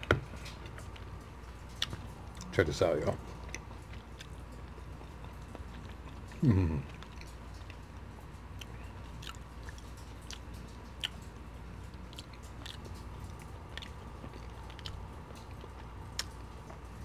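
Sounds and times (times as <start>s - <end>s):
person chewing food: 0.0s - 2.5s, 3.2s - 17.0s.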